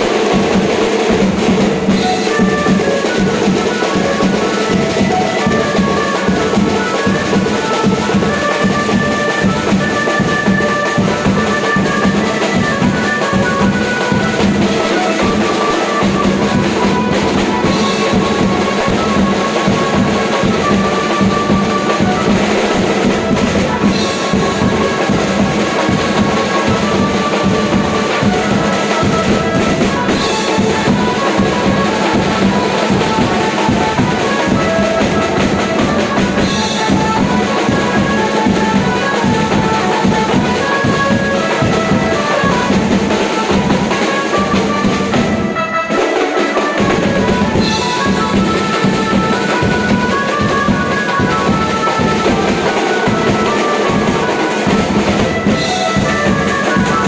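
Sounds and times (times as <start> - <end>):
drum kit and hand drums: 0.0 - 57.0
street band playing dance beat: 0.0 - 57.0.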